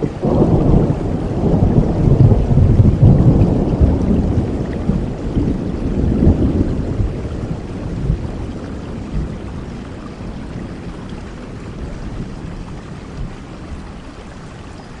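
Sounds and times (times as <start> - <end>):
thunder rumbling: 0.0 - 14.2
steady rain: 0.0 - 15.0.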